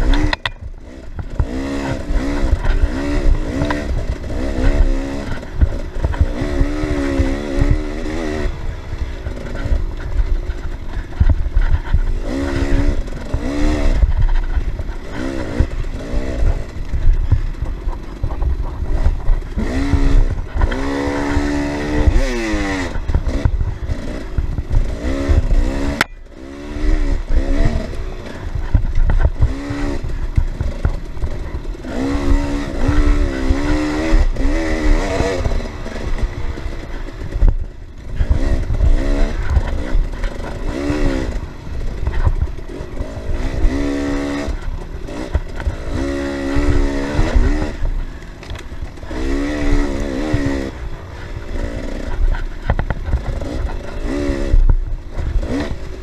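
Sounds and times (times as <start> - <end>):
bike rattling over rough ground: 0.0 - 56.0
dirt bike engine revving: 0.0 - 56.0.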